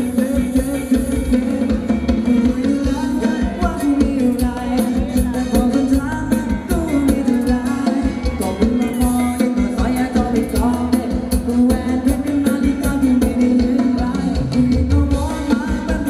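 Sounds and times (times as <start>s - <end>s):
live band dance music: 0.0s - 16.0s
person singing: 0.0s - 16.0s
steady drum beat: 0.0s - 16.0s.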